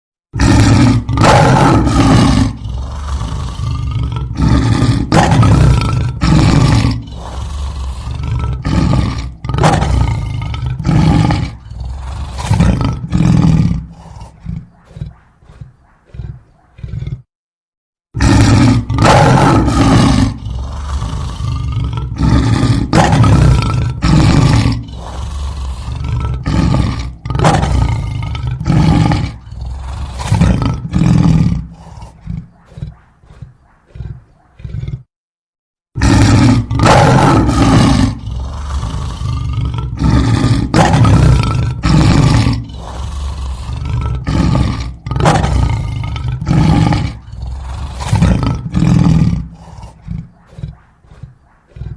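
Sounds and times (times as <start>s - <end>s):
large animal roaring: 0.4s - 17.3s, 18.2s - 35.1s, 36.0s - 51.9s.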